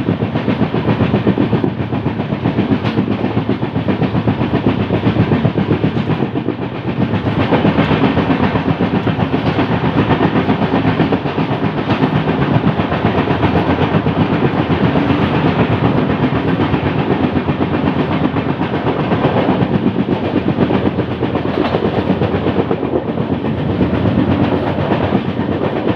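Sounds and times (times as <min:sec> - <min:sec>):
flat wheel beating on rail: 0:00.0 - 0:25.9
train rolling on track: 0:00.0 - 0:25.9.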